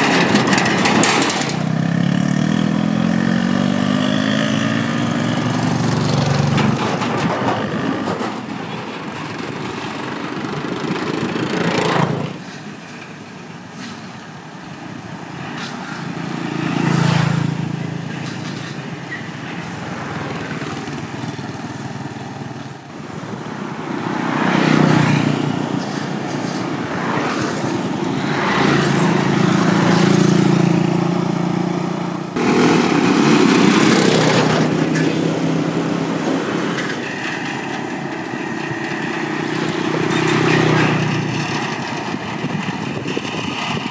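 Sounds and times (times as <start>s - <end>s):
motorbikes passing on steel bridge: 0.0s - 43.9s
steady traffic hum: 0.0s - 43.9s.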